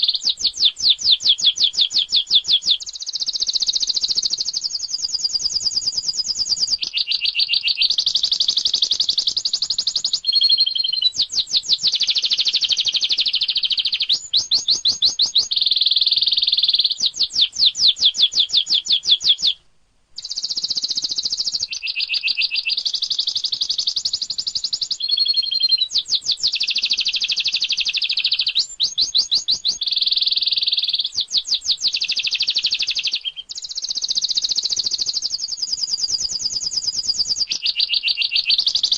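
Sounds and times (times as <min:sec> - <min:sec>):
canary singing trills: 0:00.0 - 0:19.6, 0:20.2 - 0:38.9.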